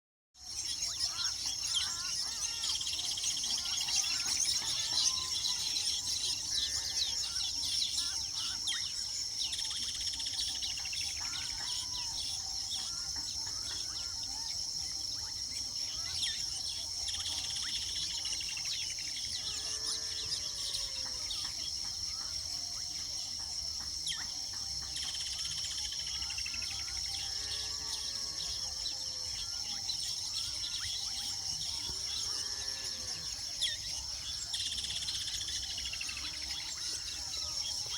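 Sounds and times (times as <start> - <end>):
birds chattering and chirping: 0.4 - 37.9
lower rounded bird calls: 0.4 - 37.9
high-pitched insect drone: 0.5 - 37.9.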